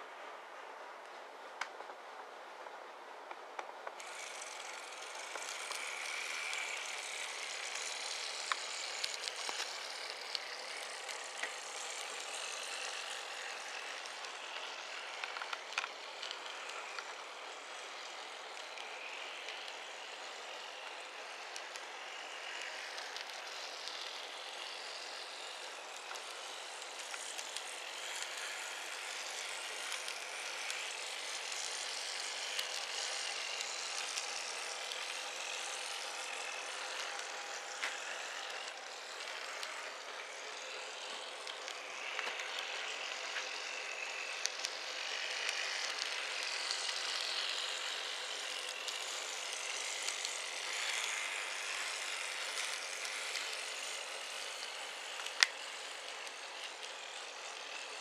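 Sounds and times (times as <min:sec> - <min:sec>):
model tram motor whir: 0:00.0 - 0:58.0.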